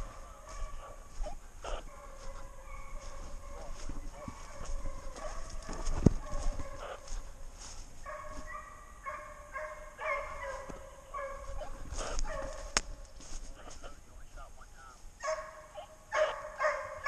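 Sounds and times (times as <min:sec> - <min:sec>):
hounds baying: 0:00.0 - 0:14.1, 0:15.2 - 0:17.0.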